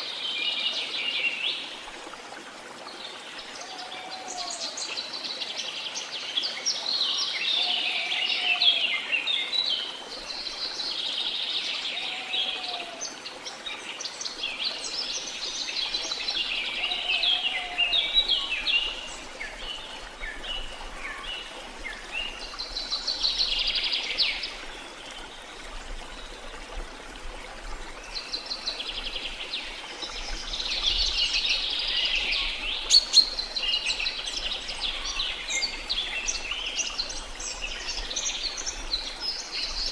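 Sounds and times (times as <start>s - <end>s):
flowing water hiss: 0.0s - 39.9s
songbirds chirping: 0.0s - 39.9s.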